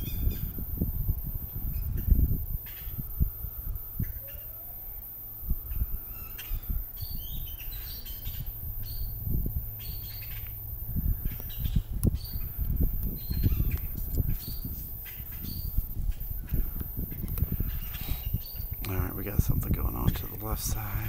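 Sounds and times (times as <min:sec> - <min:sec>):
birds squawking and chirping: 0:00.0 - 0:21.0
wind buffeting microphone: 0:00.0 - 0:21.0.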